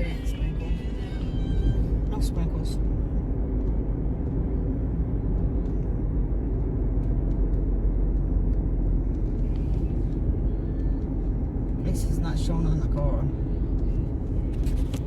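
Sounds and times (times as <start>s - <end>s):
road and engine rumble in car: 0.0s - 15.0s
faint light ticks: 2.8s - 15.0s.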